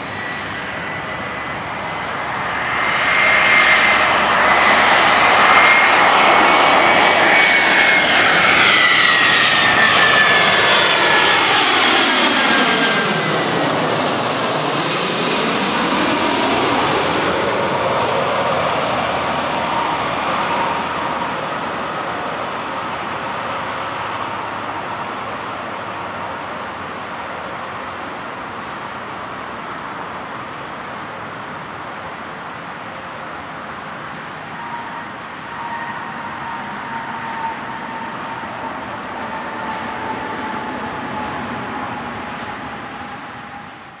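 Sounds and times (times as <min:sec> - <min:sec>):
jet engines whining: 0:00.0 - 0:44.0.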